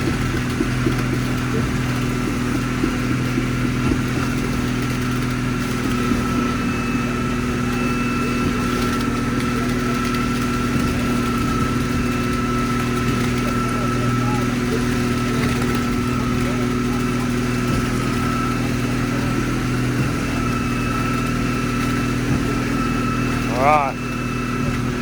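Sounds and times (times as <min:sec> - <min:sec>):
diesel engine droning: 0:00.0 - 0:25.0
thin steady whine: 0:00.0 - 0:25.0.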